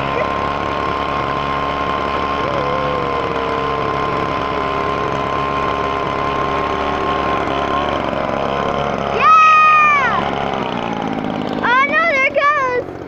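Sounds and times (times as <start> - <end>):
low tone dropping in pitch: 0.0 - 10.6
high whine: 0.0 - 11.7
leaf blower running: 0.0 - 13.0.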